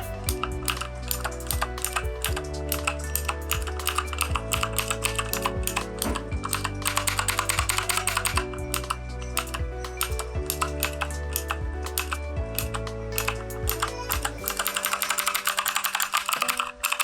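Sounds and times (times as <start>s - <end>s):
background music with held notes: 0.0s - 17.0s
mechanical keyboard typing: 0.0s - 17.0s.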